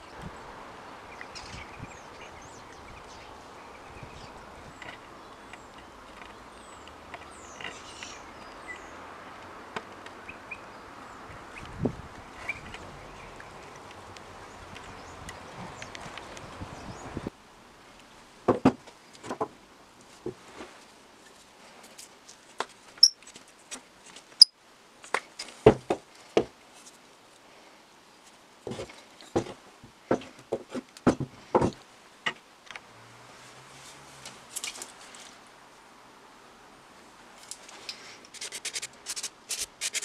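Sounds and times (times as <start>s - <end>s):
background hiss: 0.0s - 40.0s.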